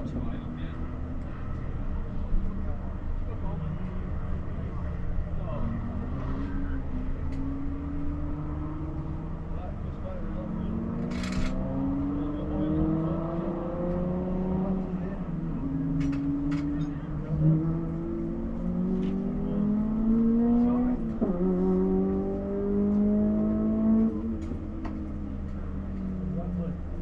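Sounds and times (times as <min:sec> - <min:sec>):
car engine accelerating through gears: 0:00.0 - 0:27.0.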